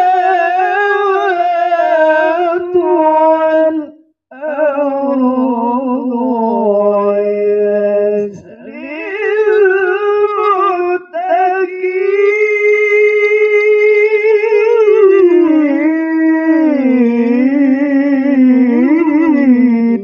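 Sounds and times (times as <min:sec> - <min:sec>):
man chanting into a microphone: 0:00.0 - 0:20.0.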